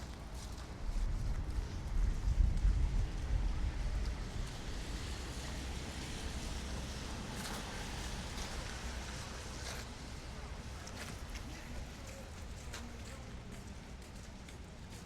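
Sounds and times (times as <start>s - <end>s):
city street noise: 0.0s - 15.0s.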